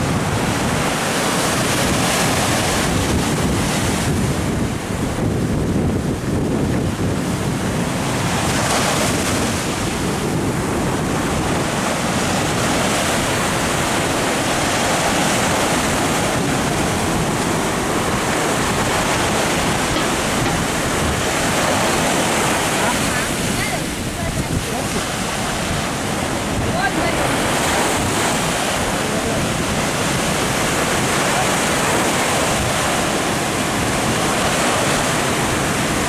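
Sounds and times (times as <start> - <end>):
surf breaking on rocks: 0.0 - 36.0.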